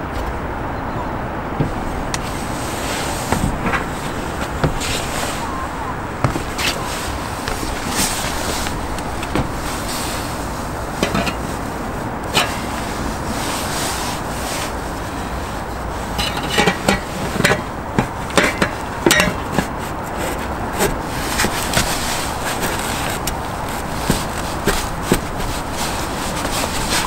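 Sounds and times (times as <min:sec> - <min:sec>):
background rumble: 0:00.0 - 0:27.0
metal rubbing and scraping: 0:01.5 - 0:27.0.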